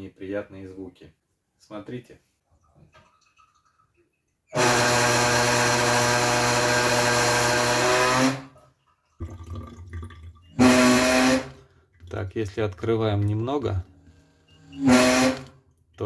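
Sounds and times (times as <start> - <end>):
water rushing through a tap: 2.7 - 16.0.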